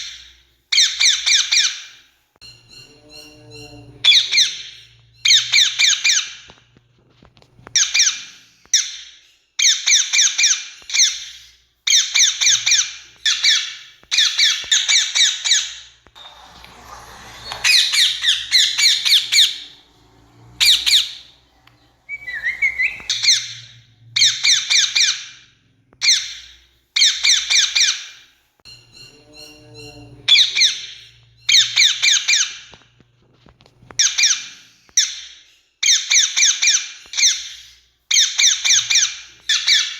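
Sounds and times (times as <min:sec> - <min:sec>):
parakeets screeching: 0:00.0 - 0:06.6, 0:07.7 - 0:32.8, 0:33.9 - 0:39.9.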